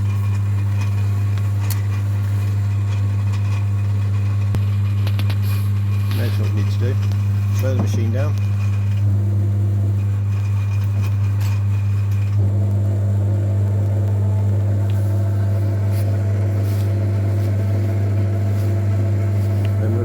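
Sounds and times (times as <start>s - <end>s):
metal lathe motor hum: 0.0s - 20.0s.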